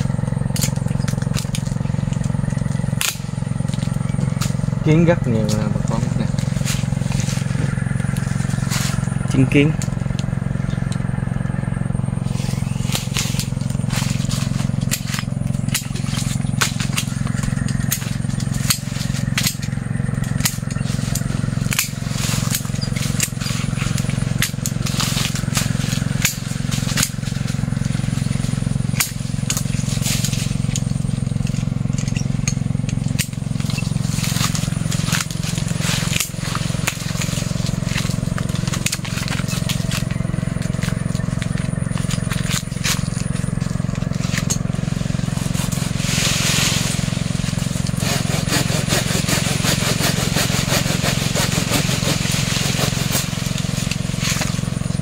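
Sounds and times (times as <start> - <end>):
branches snapping and rustling: 0.0 - 55.0
pruning shears clipping: 0.0 - 55.0
steady low hum: 0.0 - 55.0.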